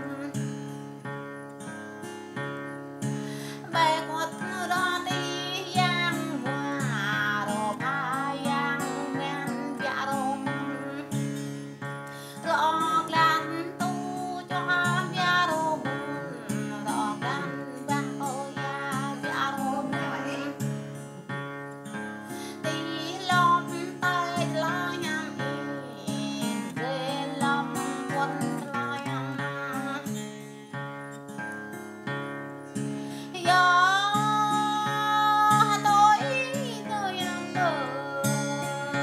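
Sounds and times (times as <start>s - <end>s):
woman singing: 0.0s - 0.5s, 3.4s - 20.9s, 22.3s - 30.2s, 33.1s - 39.0s
acoustic guitar: 0.0s - 39.0s.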